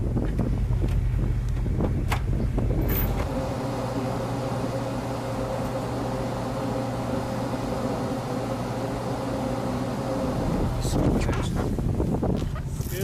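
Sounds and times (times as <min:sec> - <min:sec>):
steady machine drone: 0:00.0 - 0:12.1
low mechanical rumble: 0:00.0 - 0:13.0.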